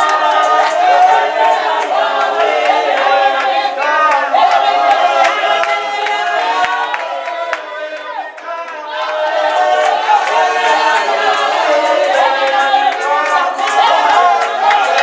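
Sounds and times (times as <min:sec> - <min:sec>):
women singing in chorus: 0:00.0 - 0:15.0.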